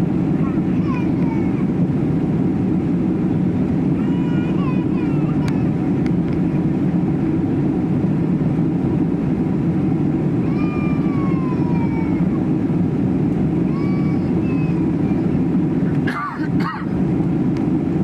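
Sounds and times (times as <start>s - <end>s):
airliner cabin roar: 0.0s - 18.0s.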